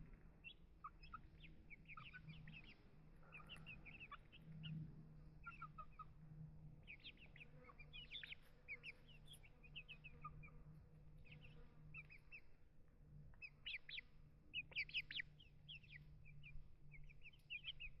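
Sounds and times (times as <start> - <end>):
small birds chirping: 0.0 - 12.6, 13.2 - 18.0.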